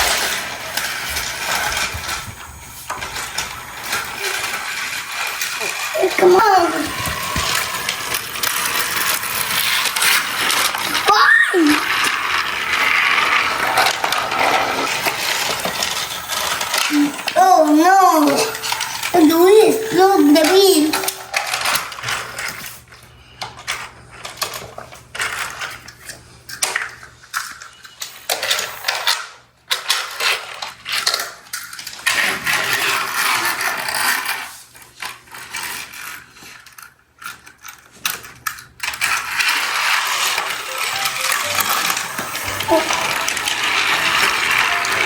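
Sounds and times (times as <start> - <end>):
toy train pieces clattering: 0.0 - 45.0.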